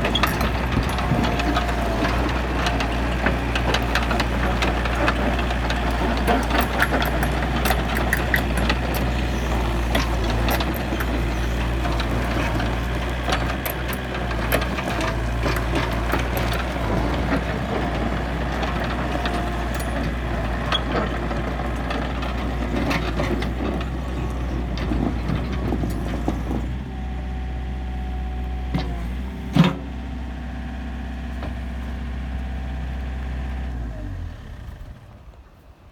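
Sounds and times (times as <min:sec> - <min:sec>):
excavator diesel engine clattering: 0:00.0 - 0:35.0.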